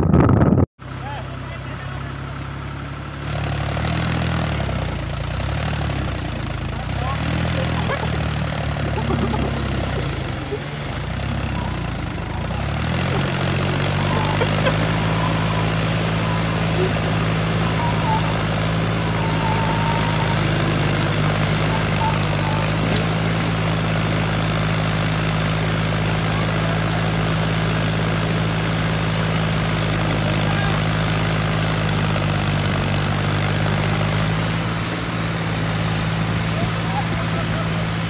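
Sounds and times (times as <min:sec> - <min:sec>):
diesel engines droning under load: 0:00.8 - 0:38.0.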